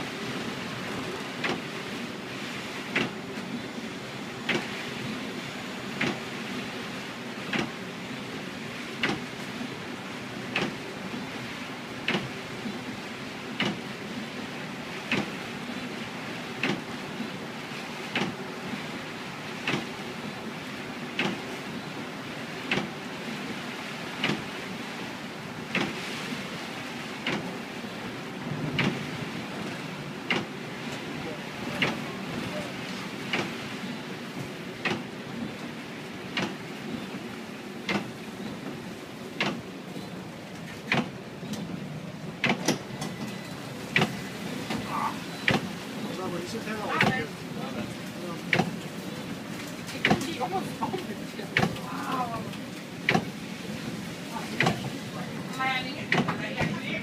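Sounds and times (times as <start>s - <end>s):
windshield wipers sweeping: 0.0s - 5.3s, 5.9s - 57.0s
heavy rain hiss: 0.0s - 57.0s
road noise inside vehicle: 0.0s - 57.0s.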